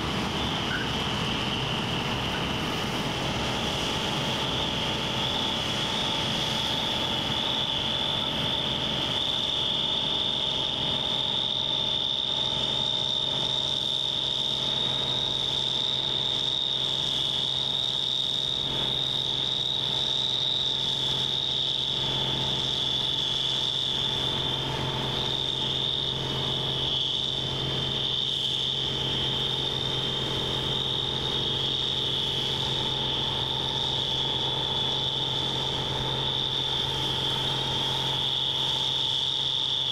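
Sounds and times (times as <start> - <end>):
low machine hum: 0.0 - 20.2, 21.0 - 39.9
combine harvester high-pitched whine: 0.0 - 39.9.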